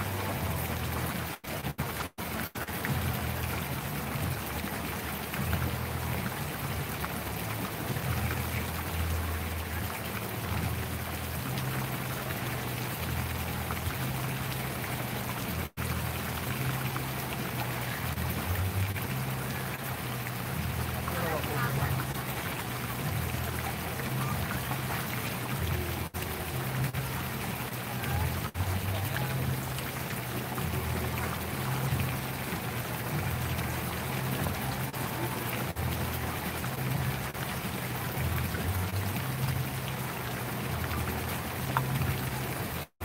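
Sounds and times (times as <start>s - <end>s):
bass of background music: 0.0s - 43.0s
water splashing: 0.0s - 43.0s.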